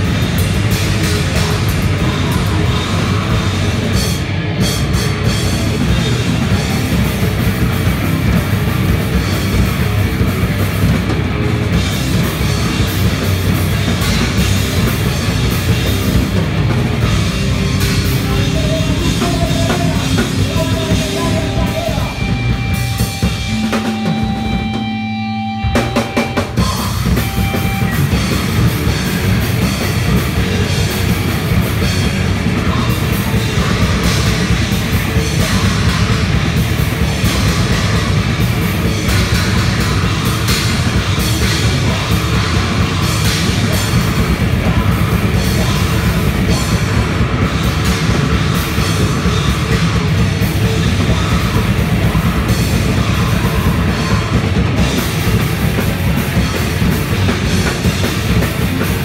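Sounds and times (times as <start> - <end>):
distorted electric guitar: 0.0 - 59.0
fast loud drumming: 0.0 - 59.0.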